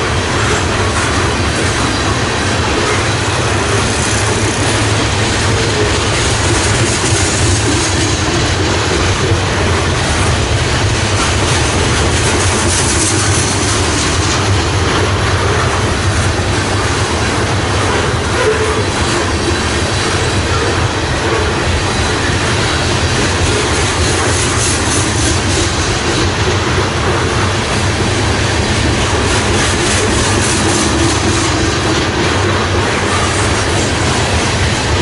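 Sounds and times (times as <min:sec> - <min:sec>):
freight train wheels clattering: 0:00.0 - 0:35.0.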